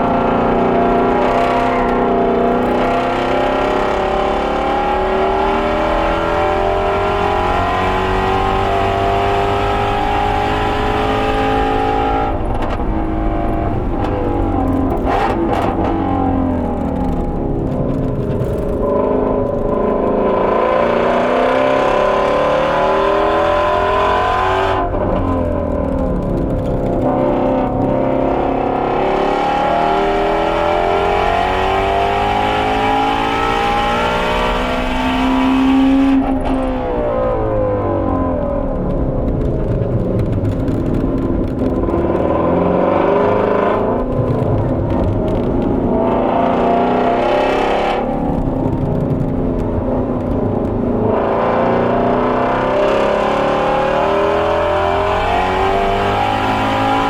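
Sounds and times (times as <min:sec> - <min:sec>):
car engine at full throttle: 0:00.0 - 0:57.0.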